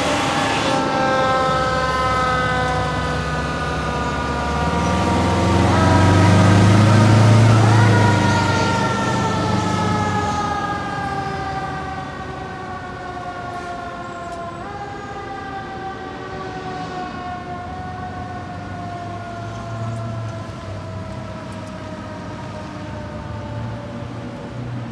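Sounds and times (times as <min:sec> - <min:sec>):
fire truck siren wailing: 0:00.0 - 0:24.9.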